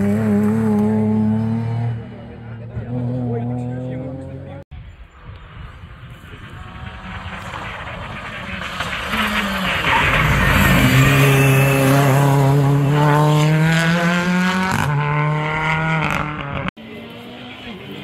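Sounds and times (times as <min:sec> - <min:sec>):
rally car engine passing: 0:00.0 - 0:04.6, 0:05.5 - 0:18.0.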